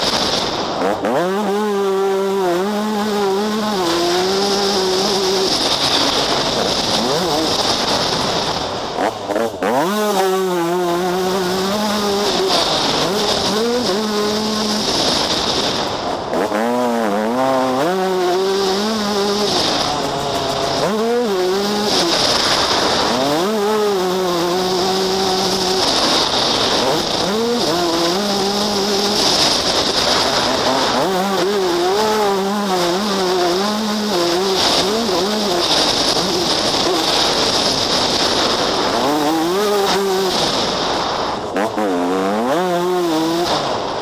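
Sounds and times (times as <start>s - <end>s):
motocross engine revving: 0.0s - 44.0s.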